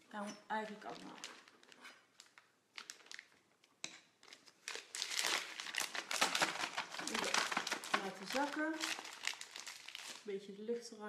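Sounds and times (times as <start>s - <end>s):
plastic piping bag crinkling: 0.5s - 10.3s.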